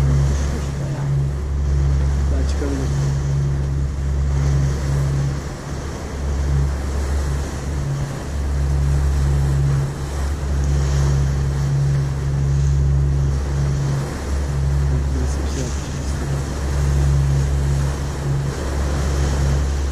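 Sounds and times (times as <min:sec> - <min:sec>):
boat engine drone: 0:00.0 - 0:19.9
water rushing past hull: 0:00.0 - 0:19.9
wind buffeting microphone: 0:00.0 - 0:19.9.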